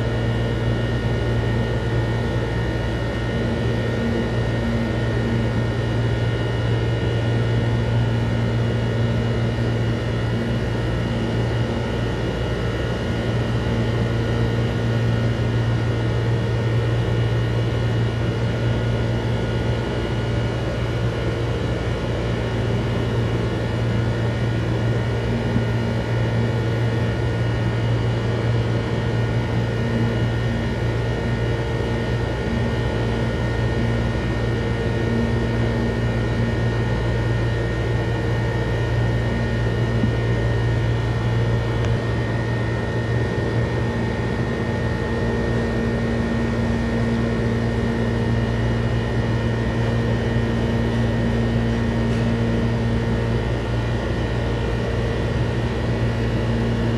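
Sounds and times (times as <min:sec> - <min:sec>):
machine hum with high tones: 0:00.0 - 0:56.9.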